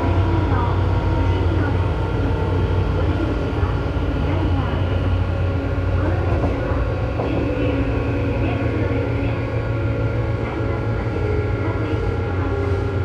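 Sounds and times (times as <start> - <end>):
train motor and rail rumble: 0.0 - 13.0.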